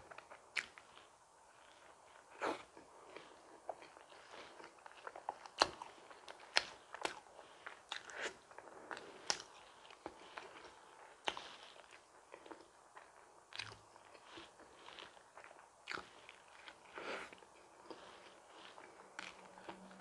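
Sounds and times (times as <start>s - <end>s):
person chewing a donut: 0.0s - 20.0s.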